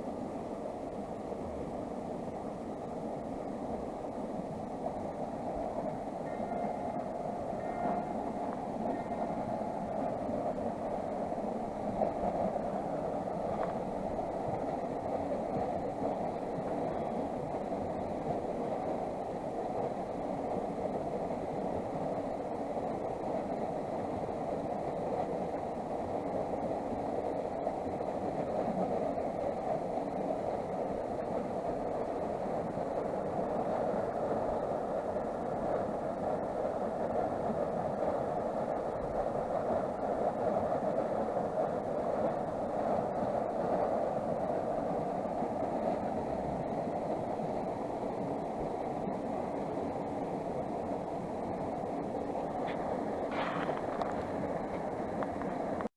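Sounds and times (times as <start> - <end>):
creek water rushing: 0.0 - 55.9.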